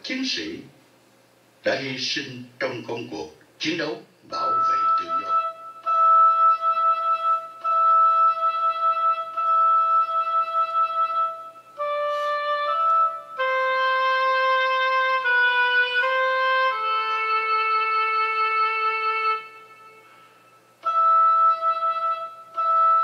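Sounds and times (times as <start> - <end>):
slow solo instrumental melody: 4.4 - 23.0.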